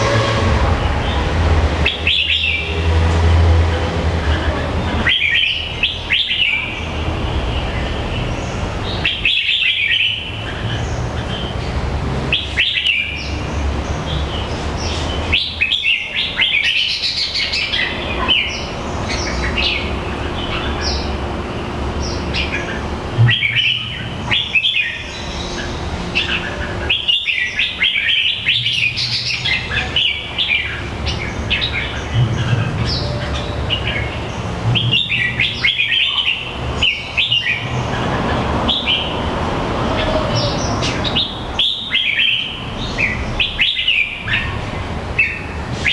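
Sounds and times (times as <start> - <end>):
bird chirping: 1.0 - 2.8, 3.8 - 39.3, 39.9 - 45.9.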